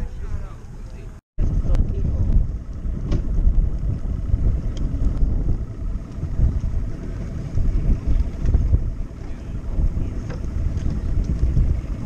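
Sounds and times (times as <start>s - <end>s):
outboard motors idling: 0.0s - 12.0s
wind buffeting microphone: 0.0s - 12.0s.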